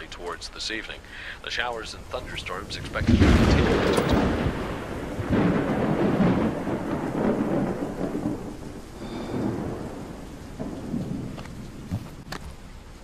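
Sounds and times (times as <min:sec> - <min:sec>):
steady rain: 0:00.0 - 0:13.0
thunder rumbling: 0:01.7 - 0:12.7.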